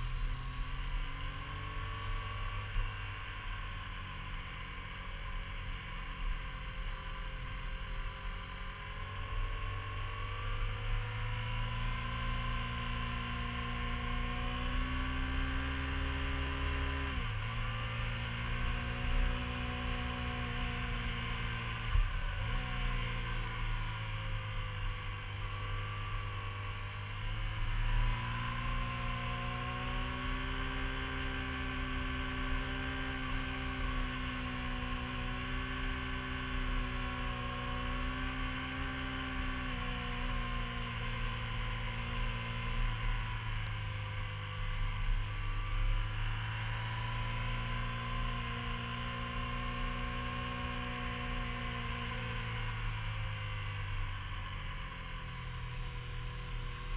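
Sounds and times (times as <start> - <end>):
motorcycle engine under load: 0.0 - 56.9.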